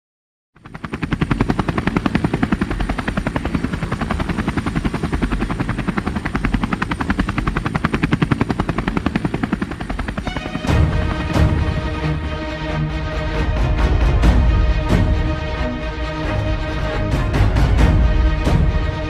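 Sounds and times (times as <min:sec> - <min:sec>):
helicopter rotor chopping: 0:00.6 - 0:19.0.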